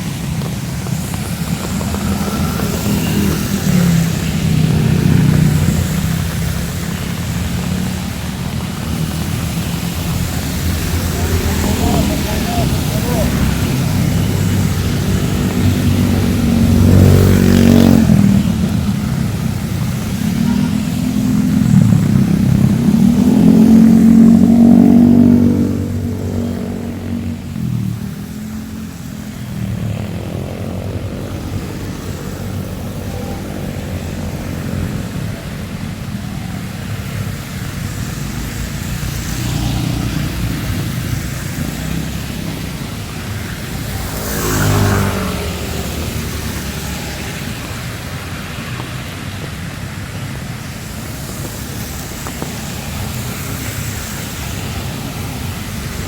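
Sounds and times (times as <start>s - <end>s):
steady engine drone: 0.0s - 48.6s
rain hiss: 0.0s - 56.0s
vehicles passing: 0.0s - 56.0s.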